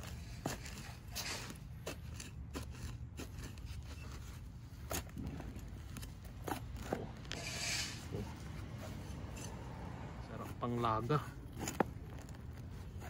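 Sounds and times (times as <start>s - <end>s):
trowel scraping through soil: 0.0s - 13.0s.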